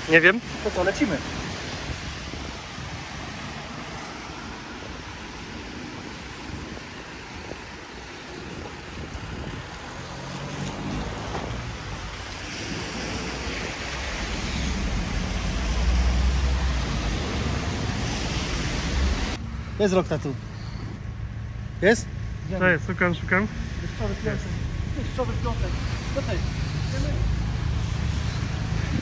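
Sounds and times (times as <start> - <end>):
wind on microphone: 0.0 - 19.4, 24.4 - 29.0
traffic on a wet road: 0.0 - 29.0
vehicles passing close: 0.0 - 29.0.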